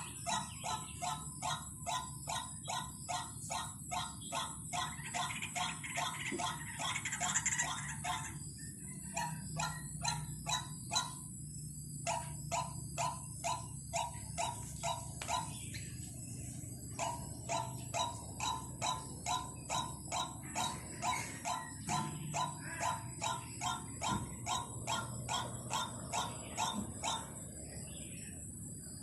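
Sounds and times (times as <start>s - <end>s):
harsh bird calls: 0.0s - 29.0s.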